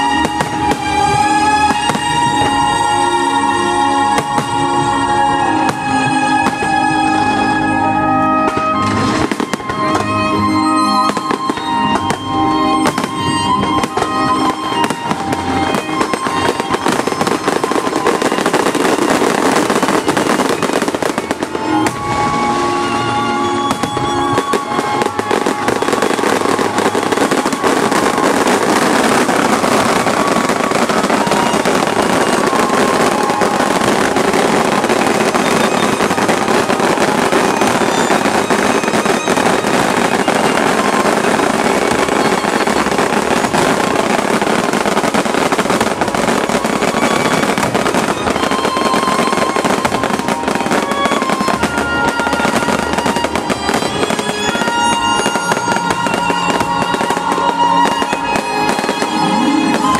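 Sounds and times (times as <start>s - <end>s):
fireworks crackling and popping: 0.0s - 59.9s
music: 0.0s - 59.9s.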